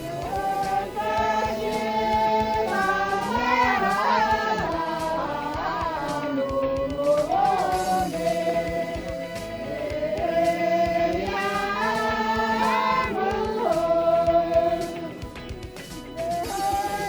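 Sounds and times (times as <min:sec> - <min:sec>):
group singing in unison: 0:00.0 - 0:15.5, 0:16.2 - 0:17.0.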